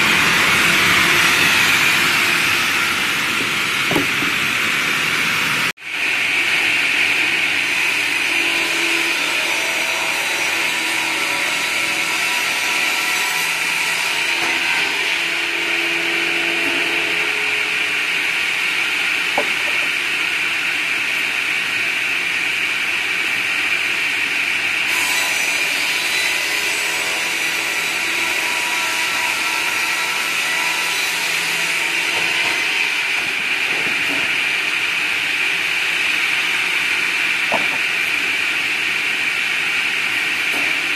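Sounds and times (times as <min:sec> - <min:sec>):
circular saw cutting log: 0:00.0 - 0:21.4, 0:24.8 - 0:40.9.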